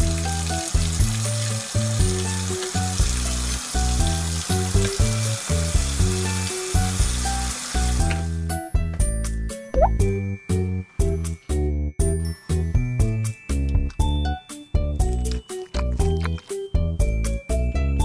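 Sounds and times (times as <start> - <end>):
children's background music: 0.0 - 18.0.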